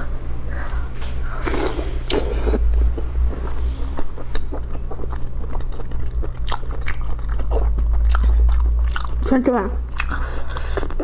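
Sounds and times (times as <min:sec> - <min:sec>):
steady low hum: 0:00.0 - 0:11.0
person chewing food: 0:01.4 - 0:09.3, 0:09.9 - 0:11.0.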